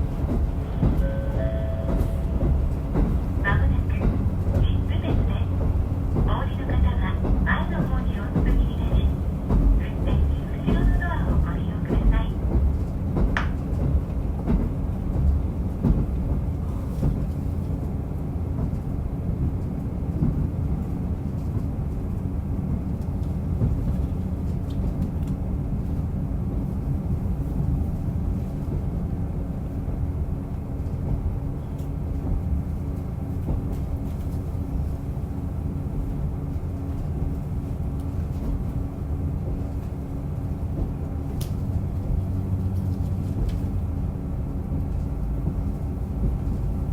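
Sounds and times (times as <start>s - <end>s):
railcar engine drone: 0.0s - 46.9s
wheels rumbling on rail: 0.0s - 46.9s.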